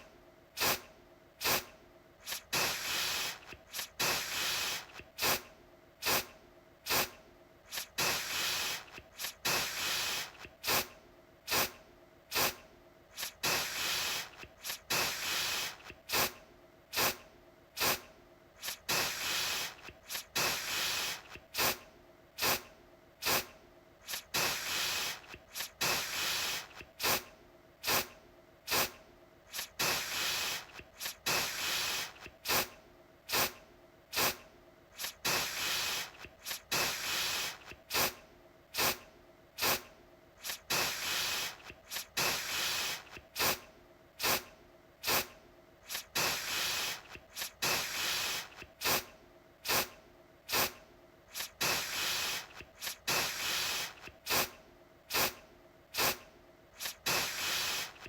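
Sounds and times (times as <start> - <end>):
aerosol can spraying: 0.6 - 17.2, 17.8 - 21.8, 22.4 - 28.1, 28.7 - 34.4, 35.0 - 38.2, 38.8 - 39.0, 39.6 - 56.2, 56.8 - 58.0.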